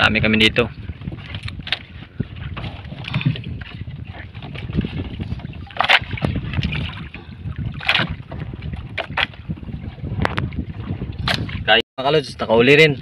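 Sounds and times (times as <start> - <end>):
water splashing against boat: 0.0 - 11.8
wind rumbling on microphone: 0.0 - 13.0.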